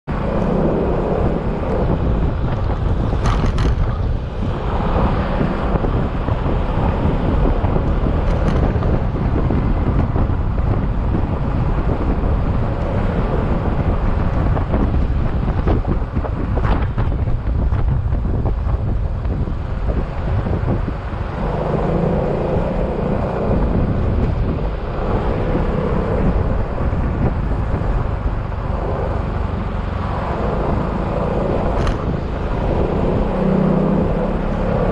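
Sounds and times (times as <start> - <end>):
road noise: 0.0 - 34.9
scooter engine drone: 0.1 - 34.9
wind buffeting on microphone: 0.1 - 34.9.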